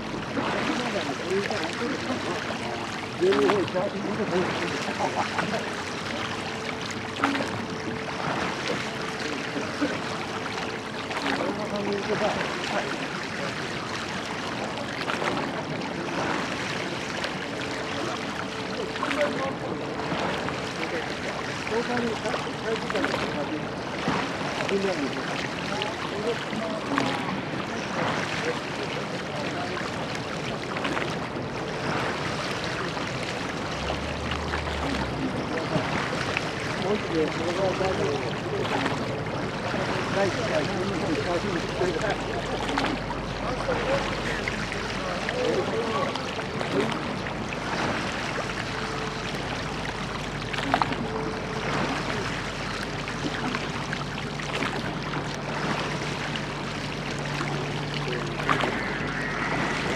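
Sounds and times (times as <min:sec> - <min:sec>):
low steady hum: 0:00.0 - 0:59.9
water splashing around boat: 0:00.0 - 0:59.9.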